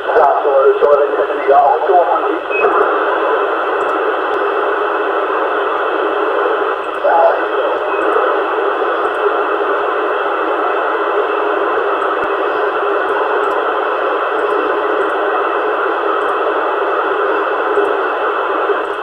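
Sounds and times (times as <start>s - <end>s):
radio static: 0.0s - 19.0s.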